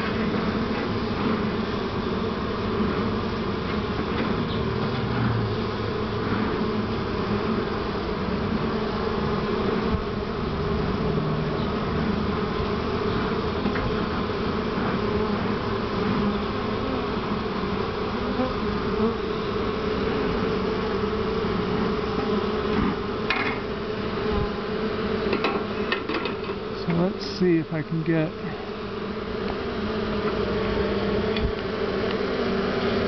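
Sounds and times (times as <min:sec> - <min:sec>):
honey bees buzzing: 0:00.0 - 0:33.0.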